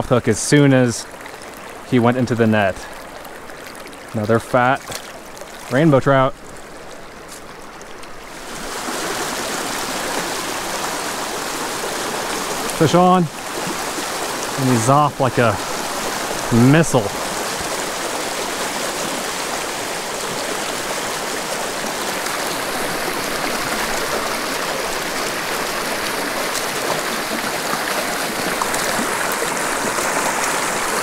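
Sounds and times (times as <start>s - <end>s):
creek running over stones: 0.0s - 31.0s.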